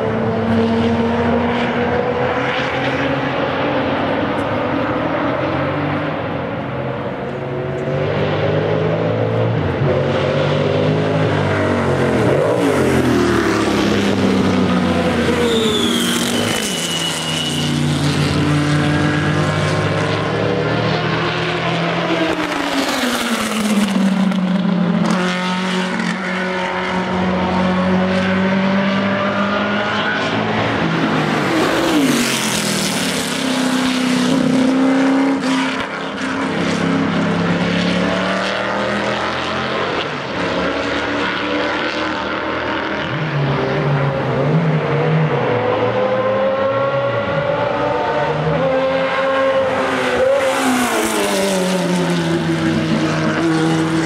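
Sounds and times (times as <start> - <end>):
racing cars passing by: 0.0 - 54.0.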